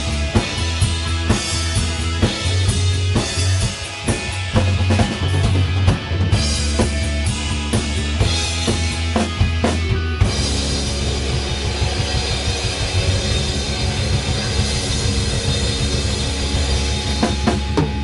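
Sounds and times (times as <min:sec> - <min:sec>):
drum hits on a steady beat: 0:00.0 - 0:18.0
rock band playing live: 0:00.0 - 0:18.0.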